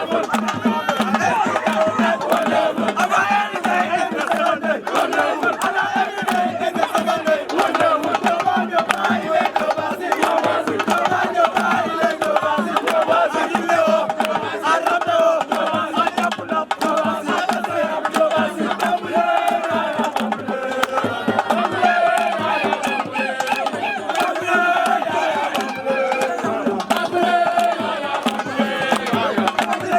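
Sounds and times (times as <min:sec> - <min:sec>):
crowd singing and chanting: 0:00.0 - 0:29.9
steady drumming: 0:00.0 - 0:29.9.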